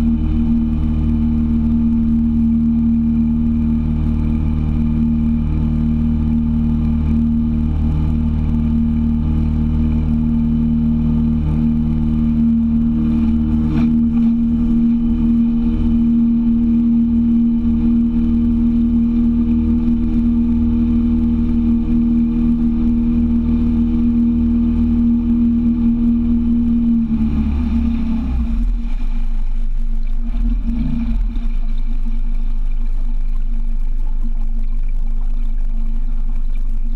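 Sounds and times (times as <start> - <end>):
outboard motor humming: 0.0 - 36.9.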